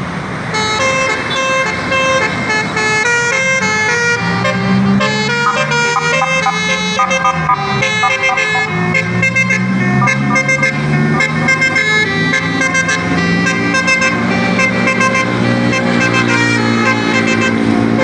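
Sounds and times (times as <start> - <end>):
bus horns playing melody: 0.4 - 18.0.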